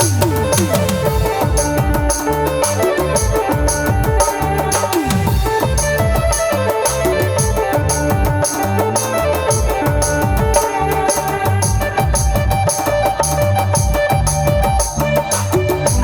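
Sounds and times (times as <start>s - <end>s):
fast high percussion strokes: 0.0s - 16.0s
held melody line: 0.0s - 16.0s
steady drum beat: 0.0s - 16.0s.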